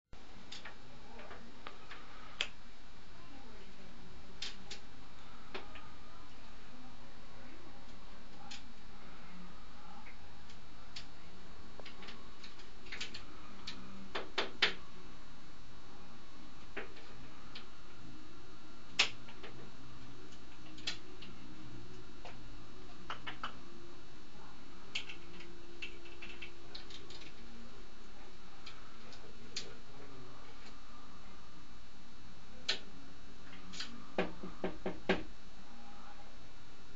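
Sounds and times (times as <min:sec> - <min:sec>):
steady low hum: 0:00.2 - 0:36.9.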